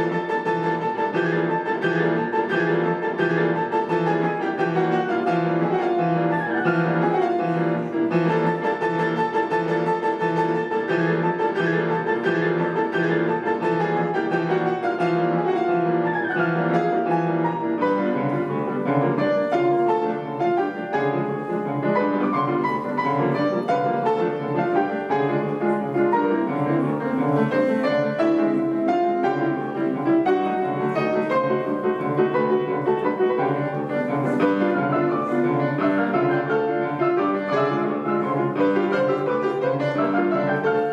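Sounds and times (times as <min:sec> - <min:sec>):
piano duo playing classical music: 0:00.0 - 0:40.9.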